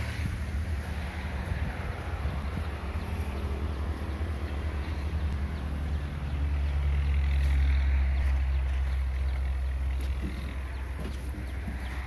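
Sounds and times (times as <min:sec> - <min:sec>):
heavy equipment engine droning: 0:00.0 - 0:12.0.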